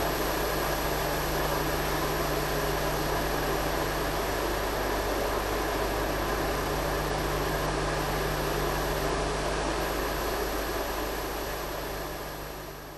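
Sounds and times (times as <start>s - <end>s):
low mains hum: 0.0s - 12.9s.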